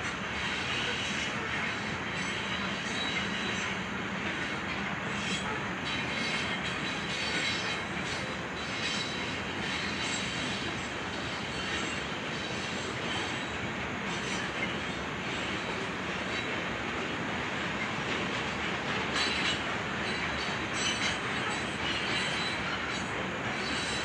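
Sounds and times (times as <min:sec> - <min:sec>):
train cars rolling on rails: 0:00.0 - 0:24.0
high wheel squeal: 0:00.4 - 0:04.5, 0:05.1 - 0:15.5, 0:19.2 - 0:24.0.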